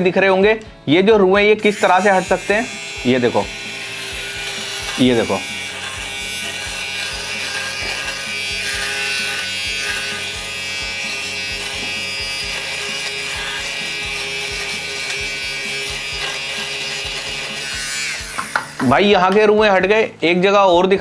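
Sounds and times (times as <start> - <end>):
background music: 0.0 - 21.0
small motor whirring: 1.6 - 18.8.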